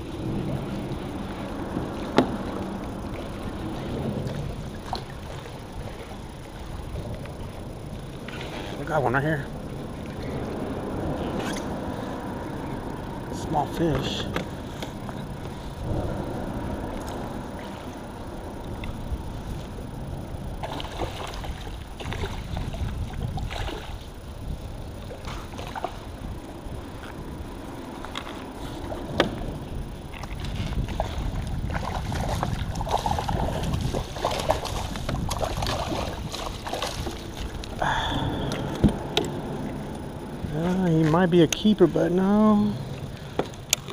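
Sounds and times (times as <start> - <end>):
water lapping against hull: 0.0 - 43.9.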